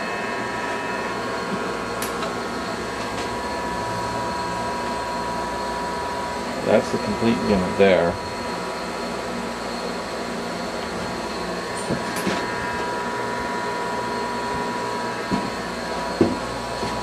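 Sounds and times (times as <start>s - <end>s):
heat pump whirring: 0.0s - 17.0s.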